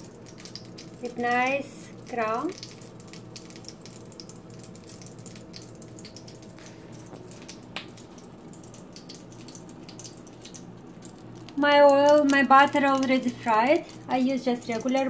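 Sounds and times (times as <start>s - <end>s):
butter sizzling in a frying pan: 0.0s - 15.0s.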